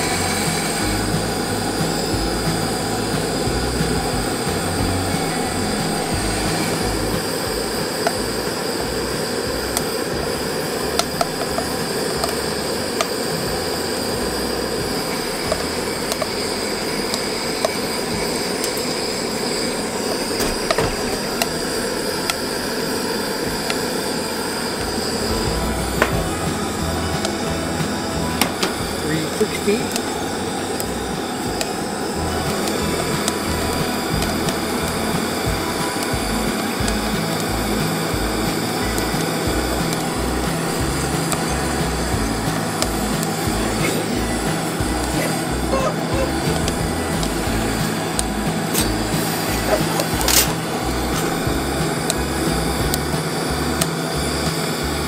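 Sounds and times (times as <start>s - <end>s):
coffee beans popping: 0.0s - 55.0s
gas burner hiss: 0.0s - 55.0s.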